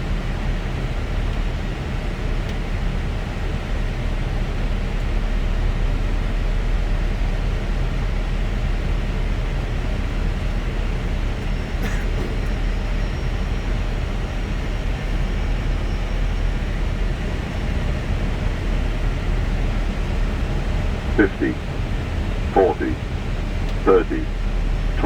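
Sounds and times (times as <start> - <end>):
wind and engine noise in cockpit: 0.0 - 25.0.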